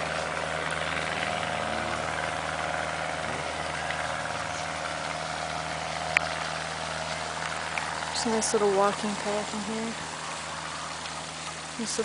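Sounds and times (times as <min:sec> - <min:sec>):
constant low hum: 0:00.0 - 0:12.0
water rushing from waterfall: 0:00.0 - 0:12.0.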